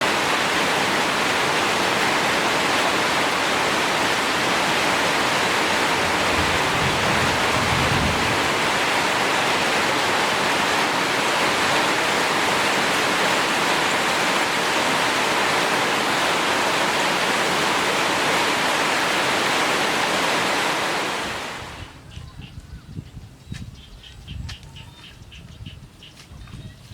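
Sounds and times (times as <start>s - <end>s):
rushing water: 0.0s - 22.1s.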